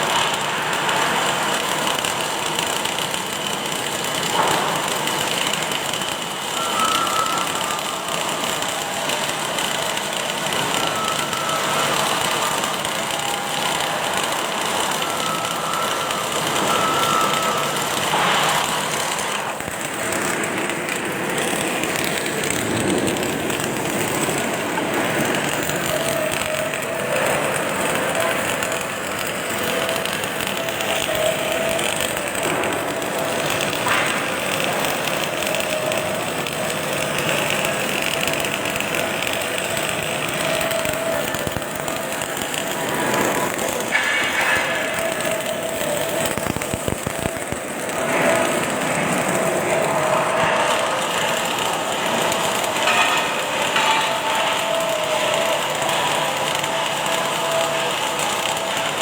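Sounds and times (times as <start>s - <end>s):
held machine tones: 0.0s - 59.0s
welding machinery hiss: 0.0s - 59.0s.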